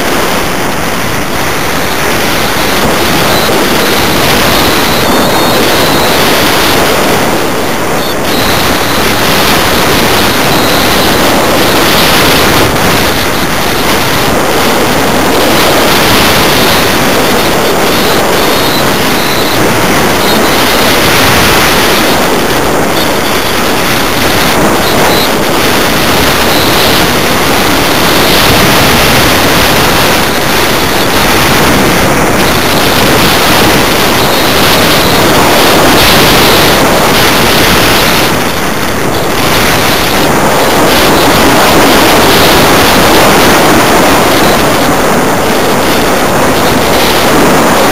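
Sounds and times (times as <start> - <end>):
wind rushing over microphone: 0.0 - 47.9.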